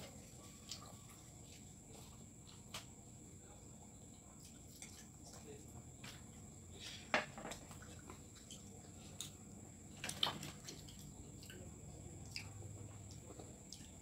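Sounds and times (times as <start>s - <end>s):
children chewing and lip smacking: 0.0s - 3.1s, 3.7s - 14.0s.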